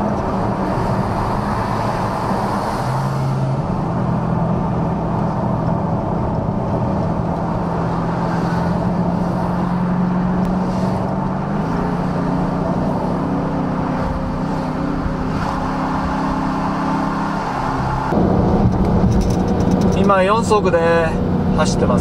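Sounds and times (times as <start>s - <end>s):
car engine droning: 0.0s - 22.0s
road noise: 0.0s - 22.0s.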